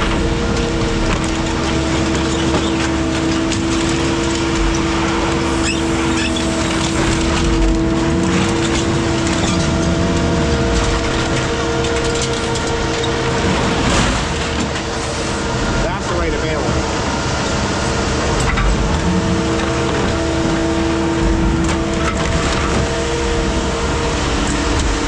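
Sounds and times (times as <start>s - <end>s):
heavy machinery droning whine: 0.0s - 25.0s.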